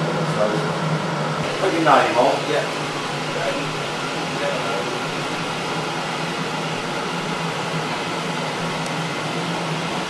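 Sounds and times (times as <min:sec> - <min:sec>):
film projector mechanical hum: 0:00.0 - 0:10.0
ventilation fan rush: 0:00.0 - 0:10.0.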